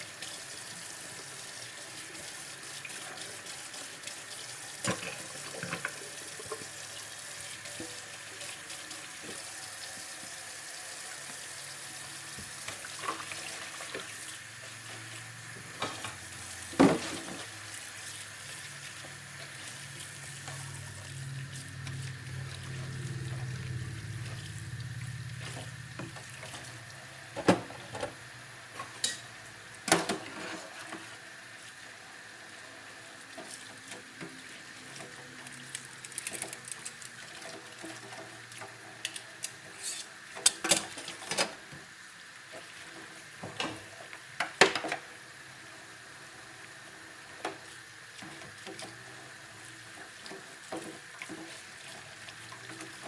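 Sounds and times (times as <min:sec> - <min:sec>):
water running in a sink: 0:00.0 - 0:53.0.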